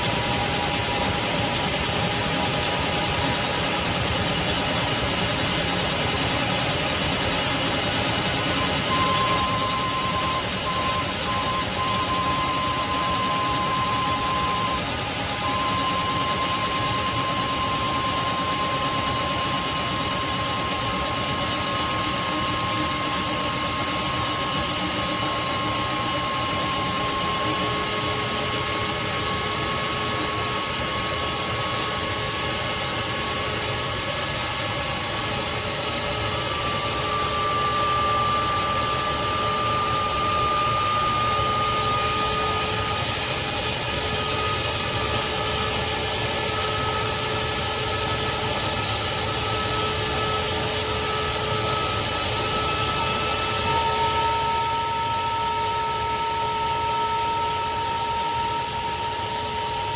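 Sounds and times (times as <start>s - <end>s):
shop vacuum running: 0.0s - 59.9s.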